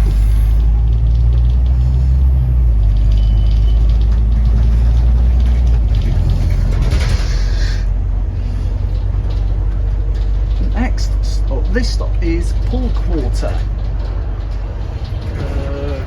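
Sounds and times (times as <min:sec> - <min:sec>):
bus diesel engine drone: 0:00.0 - 0:16.0.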